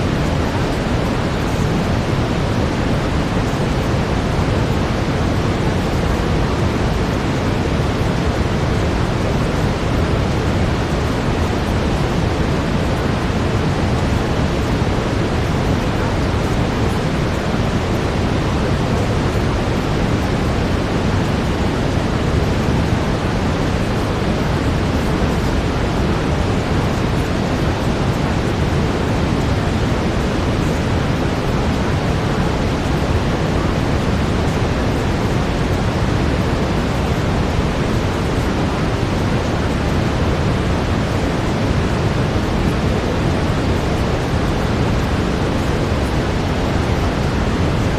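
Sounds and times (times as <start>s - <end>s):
brown noise: 0.0s - 47.9s.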